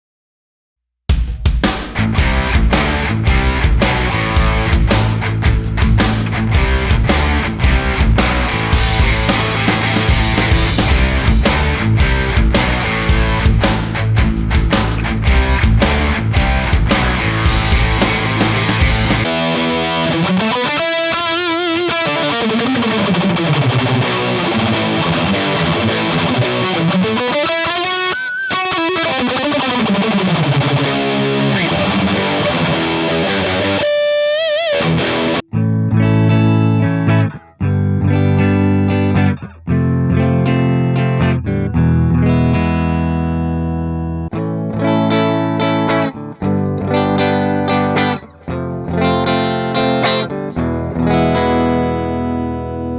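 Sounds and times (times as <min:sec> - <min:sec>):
distorted electric guitar: 0:01.1 - 0:52.9.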